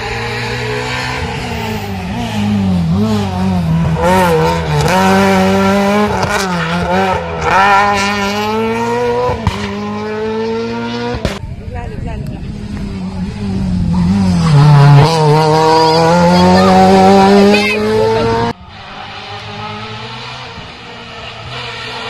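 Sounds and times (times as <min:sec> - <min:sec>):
rally car engine revving: 0:00.0 - 0:11.5, 0:12.4 - 0:22.0.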